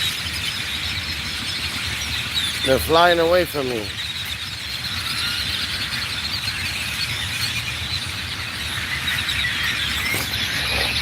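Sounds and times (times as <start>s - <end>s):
flock of birds chattering: 0.0s - 11.0s.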